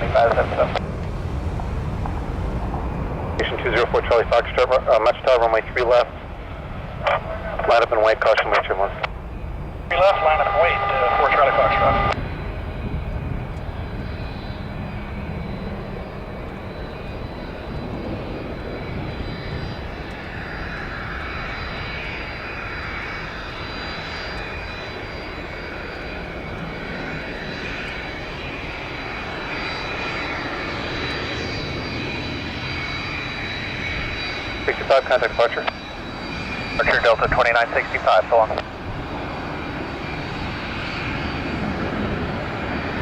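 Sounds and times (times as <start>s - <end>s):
jet airliner landing: 0.0s - 43.0s.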